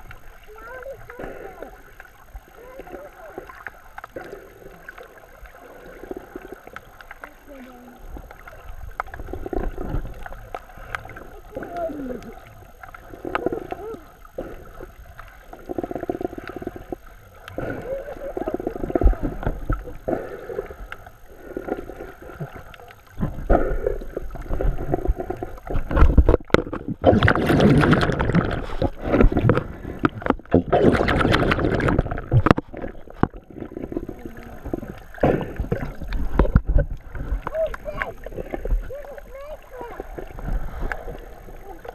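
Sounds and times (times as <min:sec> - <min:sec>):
muffled underwater moving water: 0:00.0 - 0:41.9
splashing and bubbling: 0:00.0 - 0:41.9.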